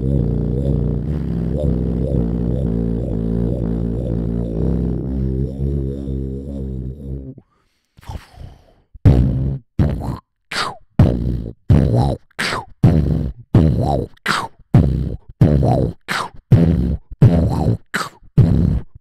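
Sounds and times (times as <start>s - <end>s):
beatboxing vocal bass hits: 0.0s - 7.4s, 9.0s - 19.0s.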